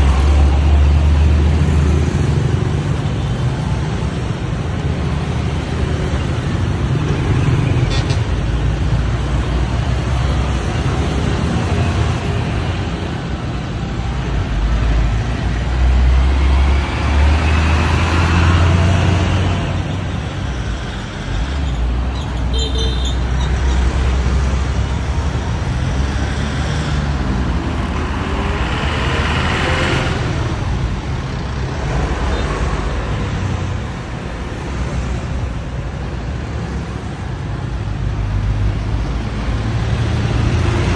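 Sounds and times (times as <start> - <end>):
motorbikes and vehicles passing: 0.0 - 40.9.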